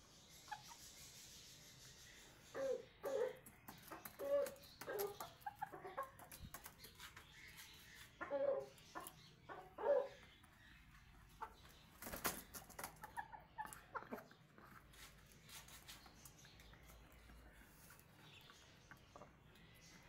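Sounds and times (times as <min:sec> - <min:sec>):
chickens clucking: 0:00.1 - 0:20.0.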